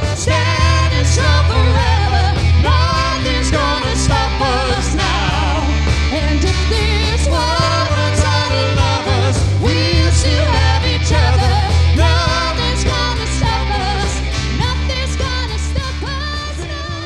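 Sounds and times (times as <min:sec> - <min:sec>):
live band playing: 0:00.0 - 0:17.0
woman singing: 0:00.0 - 0:17.0.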